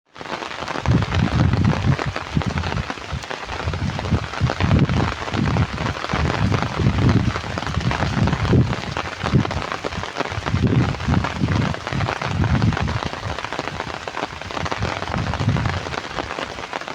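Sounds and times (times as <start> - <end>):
heavy rain pattering: 0.1 - 16.9
low rumbles: 0.9 - 16.2.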